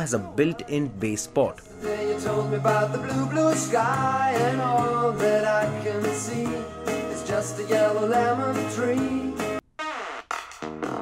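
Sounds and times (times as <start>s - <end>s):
song with singing voice: 0.0s - 9.6s.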